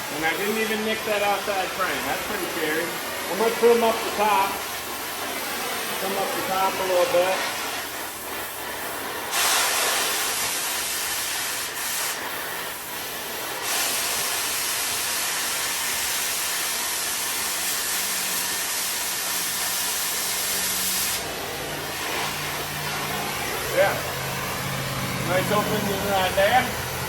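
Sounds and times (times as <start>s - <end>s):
cutting torch hissing: 0.0s - 27.0s.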